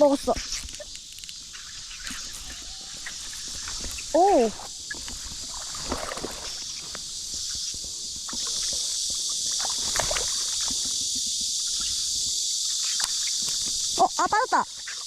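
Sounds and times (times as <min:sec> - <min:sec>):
insects chirring: 0:00.0 - 0:15.0
fish splashing in water: 0:00.4 - 0:13.6.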